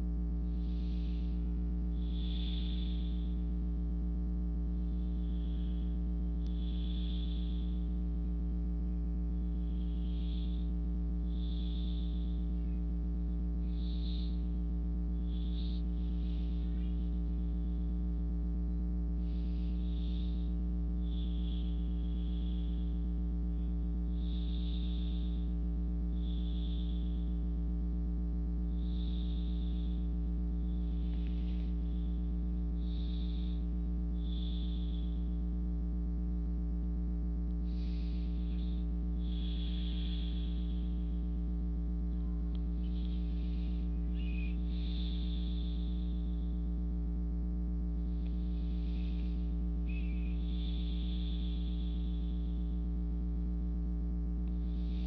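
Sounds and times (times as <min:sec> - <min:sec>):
electrical hum: 0:00.0 - 0:55.0
slow breathing: 0:00.4 - 0:03.6, 0:09.4 - 0:27.6, 0:28.7 - 0:35.3, 0:37.5 - 0:53.4, 0:54.4 - 0:55.0.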